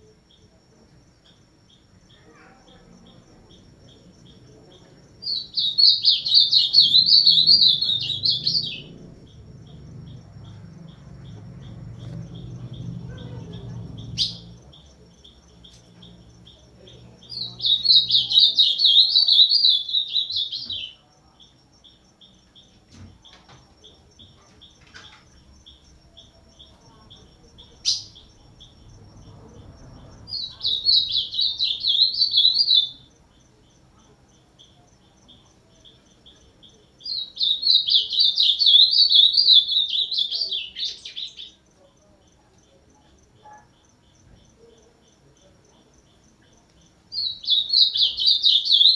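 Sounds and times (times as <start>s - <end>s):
bird singing warbled phrases: 1.2s - 41.9s, 42.6s - 48.9s.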